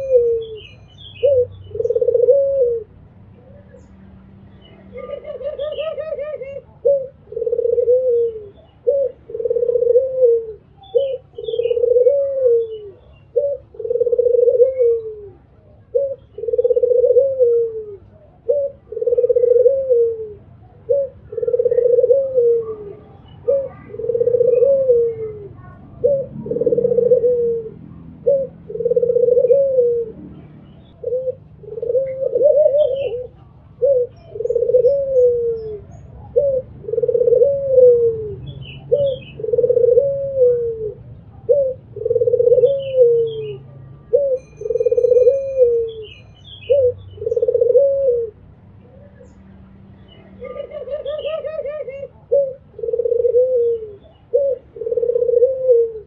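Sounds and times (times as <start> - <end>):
dove cooing: 0.0 - 3.9, 4.6 - 49.4, 50.1 - 56.0
small birds chirping: 0.0 - 56.0.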